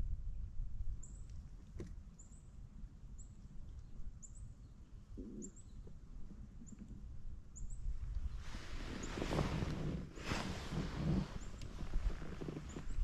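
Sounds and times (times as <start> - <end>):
low rumble of wind: 0.0 - 13.0.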